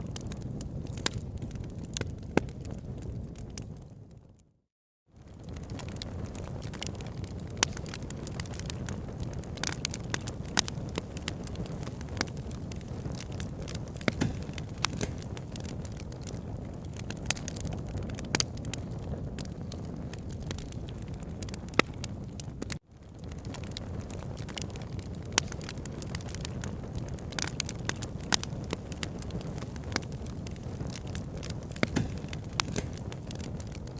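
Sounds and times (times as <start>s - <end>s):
wood fire crackling: 0.0s - 4.2s, 5.2s - 33.9s
fire popping and snapping: 0.0s - 4.4s, 5.2s - 33.9s
low rumble of flames: 0.0s - 4.5s, 5.2s - 33.9s.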